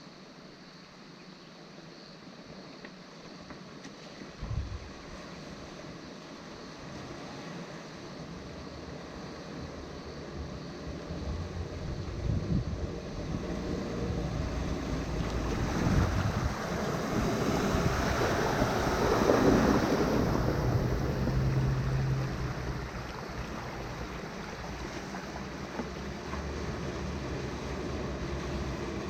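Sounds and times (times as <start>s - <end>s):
water rushing and splashing: 3.3s - 29.0s.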